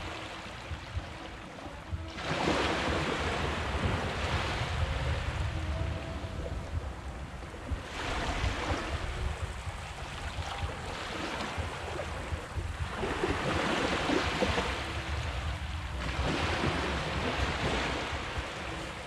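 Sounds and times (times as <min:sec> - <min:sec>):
waves washing on sand: 0:00.0 - 0:19.0.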